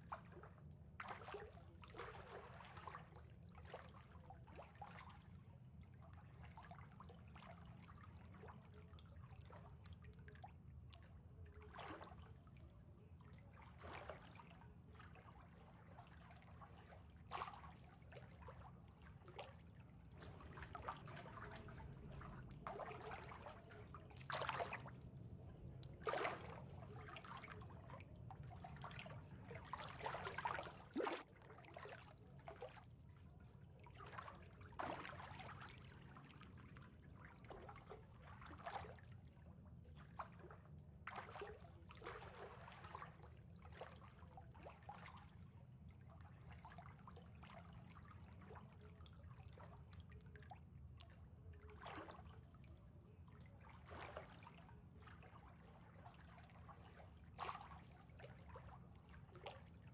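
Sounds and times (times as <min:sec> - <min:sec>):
faint low hum: 0:00.0 - 0:59.9
soft water splashes: 0:00.0 - 0:59.9
water trickling and lapping: 0:00.0 - 0:59.9.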